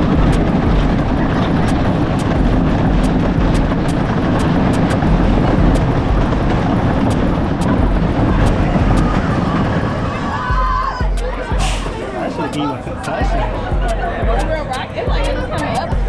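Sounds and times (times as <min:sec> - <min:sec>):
rushing low rumble: 0:00.0 - 0:16.0.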